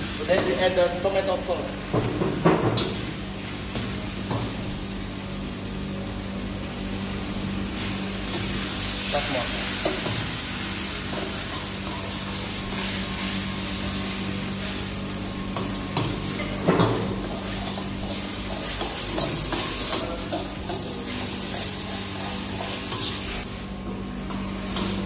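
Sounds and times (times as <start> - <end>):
noodles sizzling in a wok: 0.0 - 25.0.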